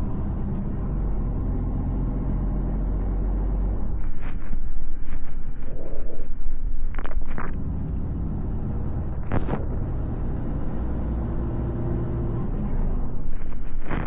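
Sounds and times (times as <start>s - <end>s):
diesel lorry engine rumble: 0.0s - 14.0s
road noise: 0.0s - 14.0s.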